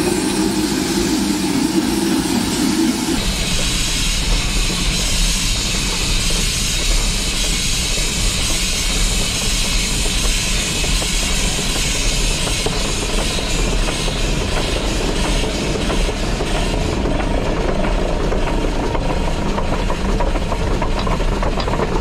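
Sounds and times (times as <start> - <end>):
steam hissing: 0.0 - 20.2
train wheels clattering on rails: 0.0 - 22.0.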